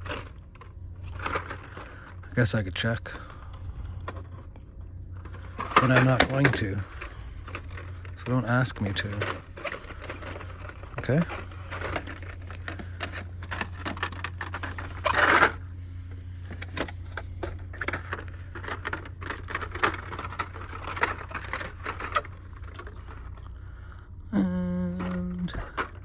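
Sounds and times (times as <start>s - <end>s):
toy cars rattling in blister packs: 0.0s - 4.5s, 5.1s - 15.6s, 16.2s - 23.6s, 25.0s - 26.0s
low hum: 0.0s - 26.0s.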